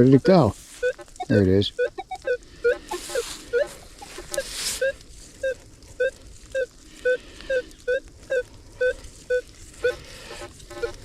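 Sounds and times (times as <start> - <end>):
metal detector beeping: 0.0 - 11.0.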